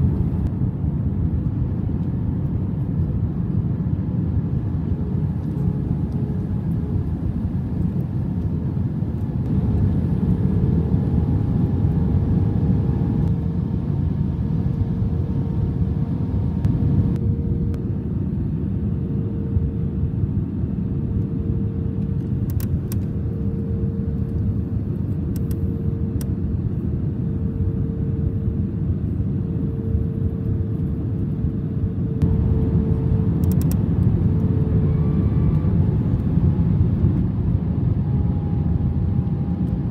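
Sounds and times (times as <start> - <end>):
airliner cabin engine rumble: 0.0 - 39.9
faint engine whine: 0.0 - 39.9.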